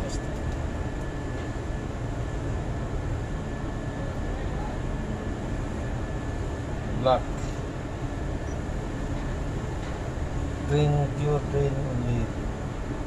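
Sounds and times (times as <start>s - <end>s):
constant high whine: 0.0s - 13.0s
low machinery rumble: 0.0s - 13.0s.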